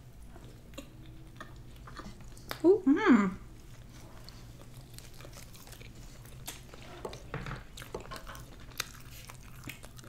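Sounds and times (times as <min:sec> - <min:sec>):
chewing and mouth noises: 0:00.2 - 0:02.7, 0:03.5 - 0:10.0.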